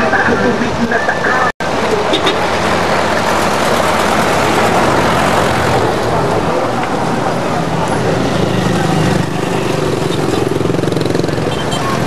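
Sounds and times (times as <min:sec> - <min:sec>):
steady rushing noise: 0:00.0 - 0:10.7.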